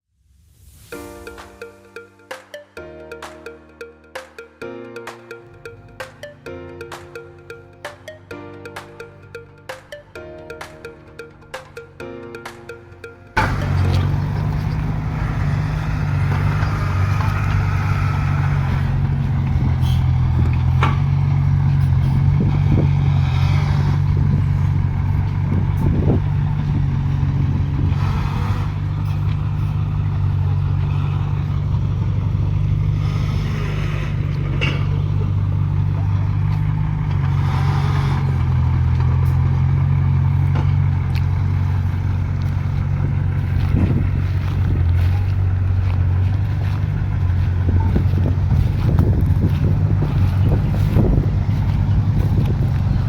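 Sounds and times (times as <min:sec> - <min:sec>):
heavy diesel engine running: 0:09.0 - 0:53.0.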